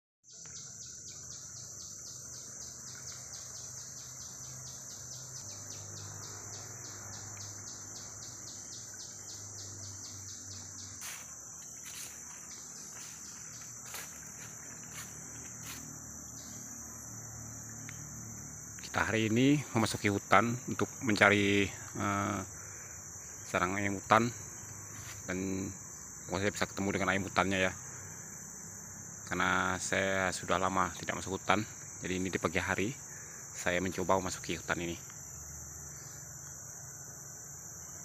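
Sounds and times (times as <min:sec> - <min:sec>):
insects droning: 0:00.3 - 0:38.0.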